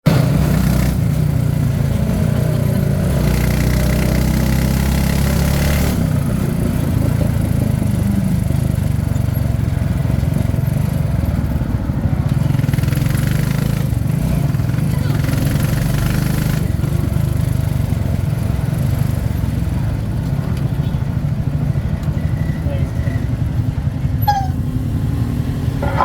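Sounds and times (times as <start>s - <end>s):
diesel engine running: 0.1s - 26.0s.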